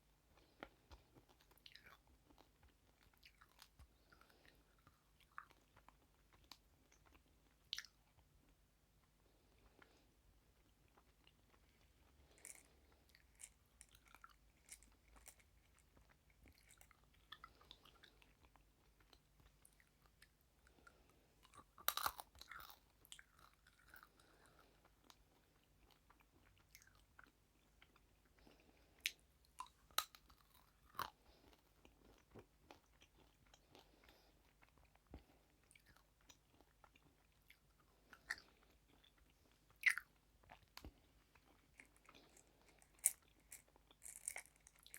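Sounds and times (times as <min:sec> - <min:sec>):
person chewing crunchy food: 0:00.2 - 0:44.9.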